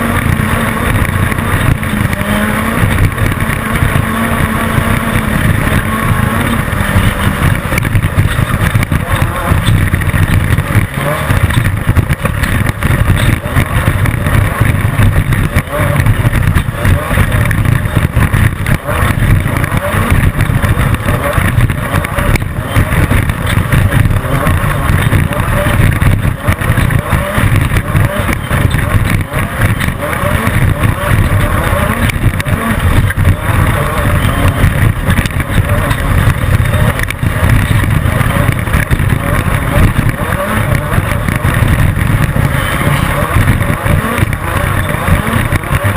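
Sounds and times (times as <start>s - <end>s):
car jolting and rattling: 0.0s - 45.9s
race car engine running hard: 0.0s - 45.9s.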